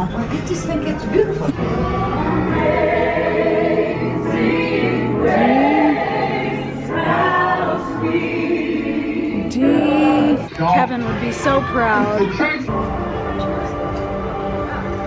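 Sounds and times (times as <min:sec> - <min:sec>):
choir singing held chords: 0:01.6 - 0:14.7.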